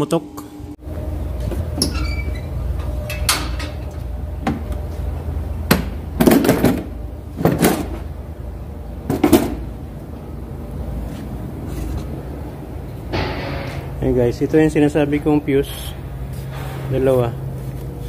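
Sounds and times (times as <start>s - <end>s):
steady low rumble: 0.0s - 7.4s, 8.0s - 18.0s.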